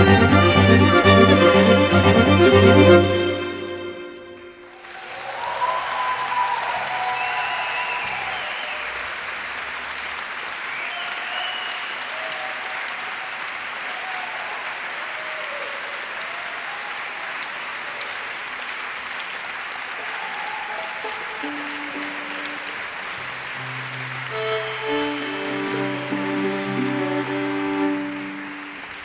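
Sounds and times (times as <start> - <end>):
audience applauding: 4.6 - 29.0.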